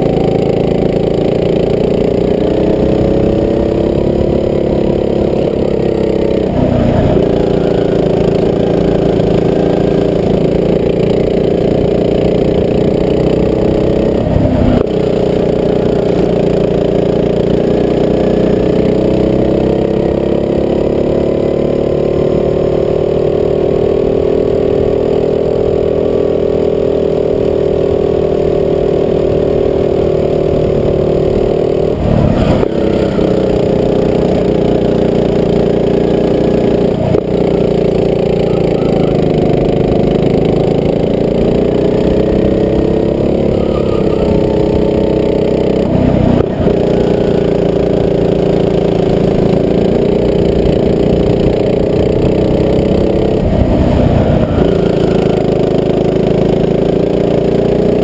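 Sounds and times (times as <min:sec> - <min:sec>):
go-kart engine running: 0:00.0 - 0:58.0.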